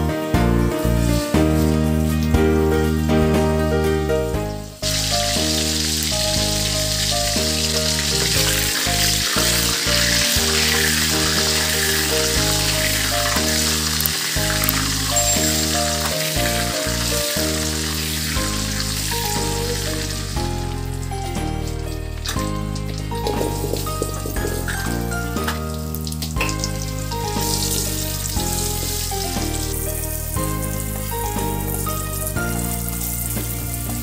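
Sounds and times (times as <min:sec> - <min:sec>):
background music: 0:00.0 - 0:34.0
cooking oil sizzling: 0:00.8 - 0:34.0.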